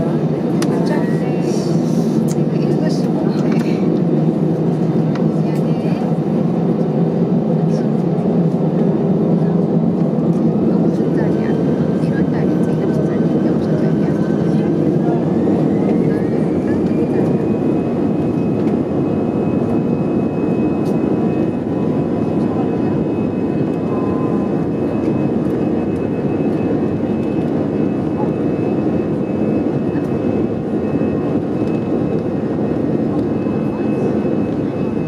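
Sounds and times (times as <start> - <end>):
jet engine roar in cabin: 0.0 - 35.0.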